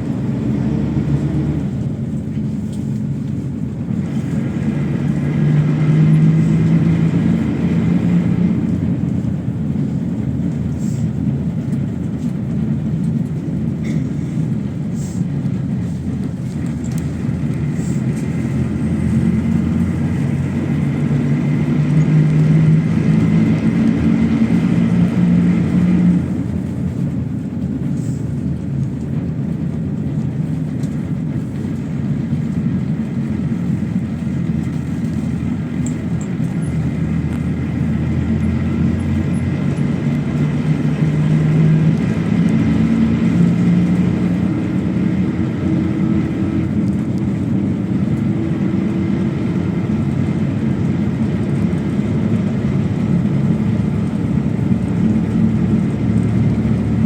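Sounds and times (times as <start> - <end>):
bus engine running: 0.0 - 57.0
road noise: 0.0 - 57.0.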